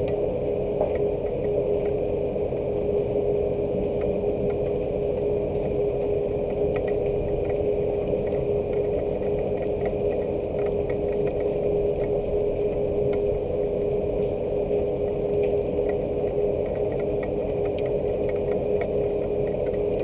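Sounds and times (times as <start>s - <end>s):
machine hum: 0.0s - 20.0s
steady rain: 0.0s - 20.0s.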